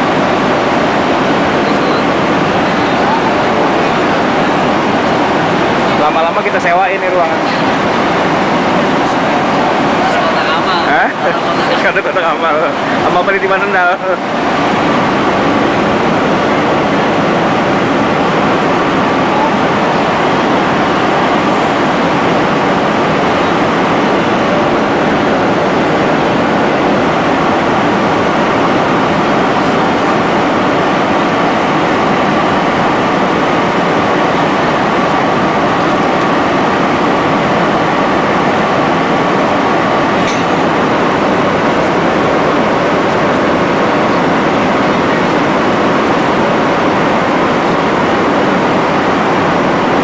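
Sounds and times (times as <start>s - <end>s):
faint steady hum: 0.0s - 50.0s
jet engine and airflow: 0.0s - 50.0s.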